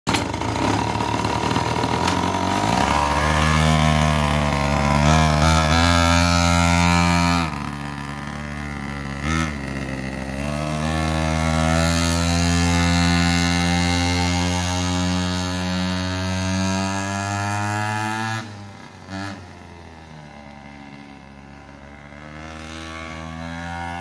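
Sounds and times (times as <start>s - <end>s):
pocket bike engine revving: 0.1s - 24.0s.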